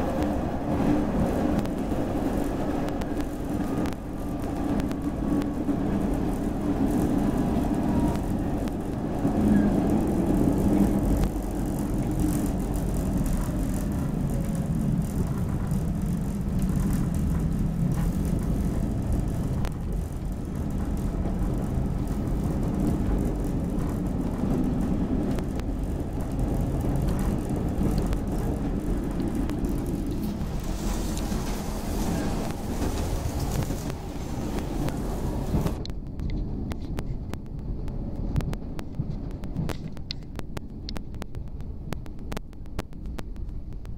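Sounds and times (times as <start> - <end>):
train car rumbling at speed: 0.0 - 43.9.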